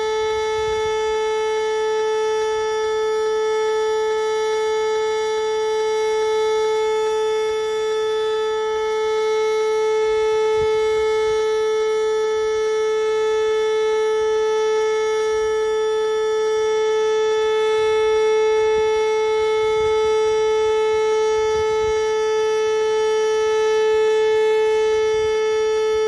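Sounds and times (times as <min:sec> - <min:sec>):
electronic siren steady tone: 0:00.0 - 0:26.0.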